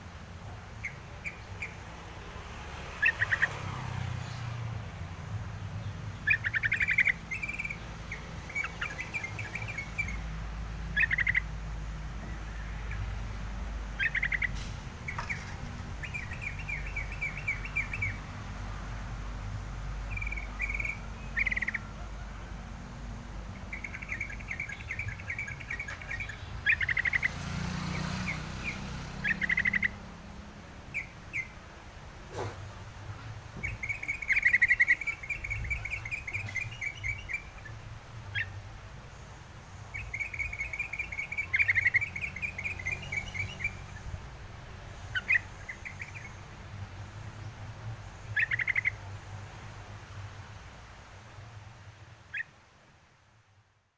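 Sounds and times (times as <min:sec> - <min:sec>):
songbird chirps and trills: 0:00.0 - 0:53.3.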